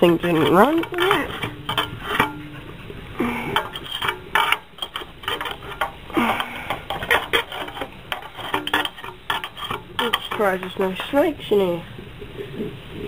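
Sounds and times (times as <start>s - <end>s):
metal engine parts clinking: 0.0s - 11.2s.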